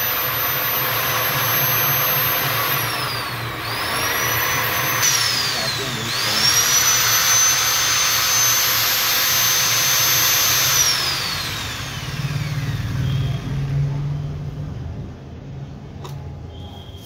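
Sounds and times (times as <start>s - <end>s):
electric drill whining: 0.0s - 13.8s.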